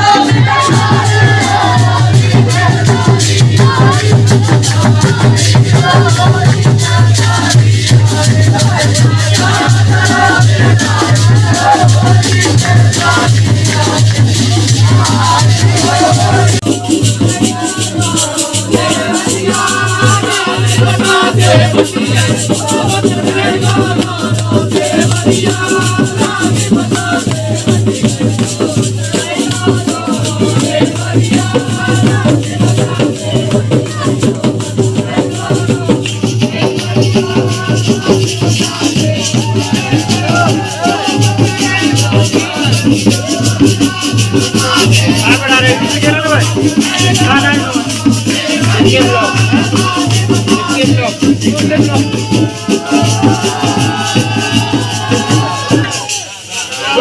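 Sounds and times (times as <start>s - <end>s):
jingling percussion: 0.0s - 57.0s.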